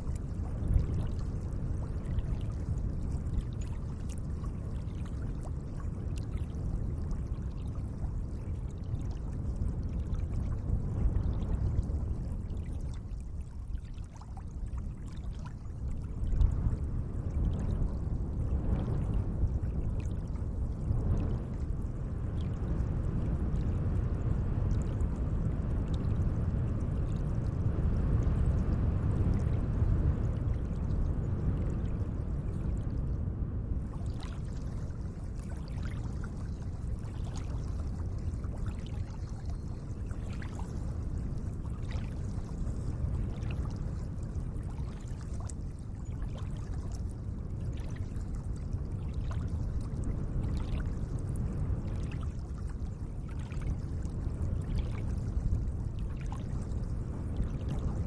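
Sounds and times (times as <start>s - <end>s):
small water splashes and drips: 0.0s - 21.6s, 23.5s - 27.4s, 33.9s - 58.0s
gentle lake water washing: 0.0s - 27.4s, 29.3s - 33.1s, 33.8s - 58.0s.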